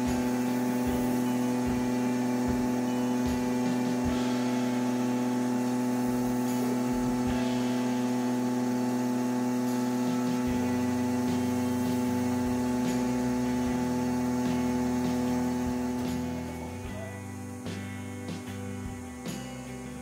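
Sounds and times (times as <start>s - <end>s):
laser cutter humming: 0.0s - 20.0s.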